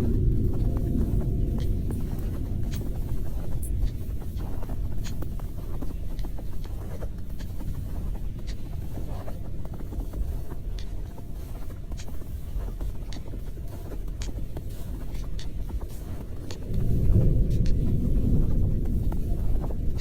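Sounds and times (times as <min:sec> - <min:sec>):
faint clicks and ticks: 0:00.0 - 0:20.0
steady low rumble: 0:00.0 - 0:20.0.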